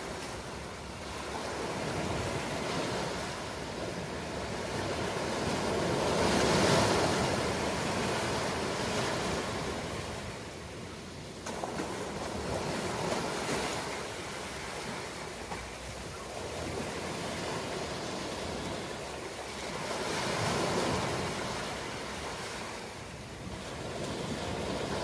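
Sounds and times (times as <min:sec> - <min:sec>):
ocean waves rushing: 0:00.0 - 0:25.0.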